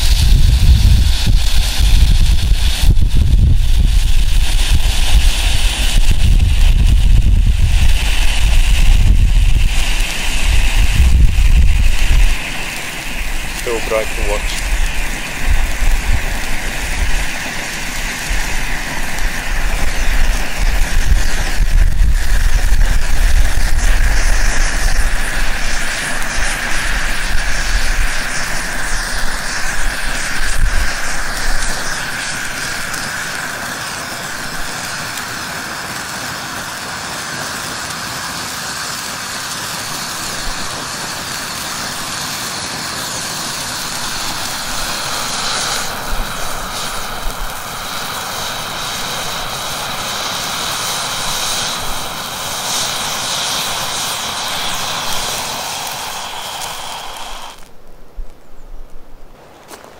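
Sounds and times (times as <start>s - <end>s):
hand flare burning with hiss: 0.0s - 59.9s.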